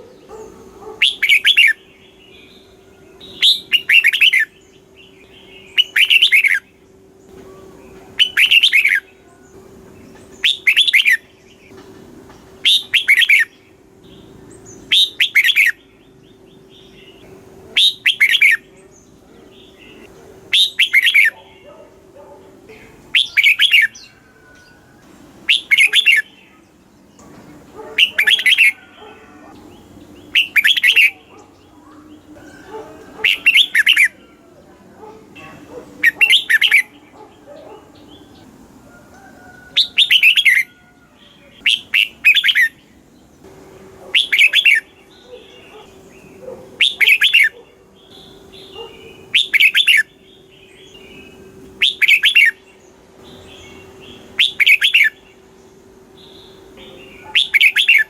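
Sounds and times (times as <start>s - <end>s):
bulbul warbling song: 0.0s - 11.6s, 12.6s - 21.9s, 22.6s - 34.6s, 35.3s - 38.7s, 39.8s - 43.4s, 44.2s - 58.0s
faint steady hum: 0.0s - 58.0s.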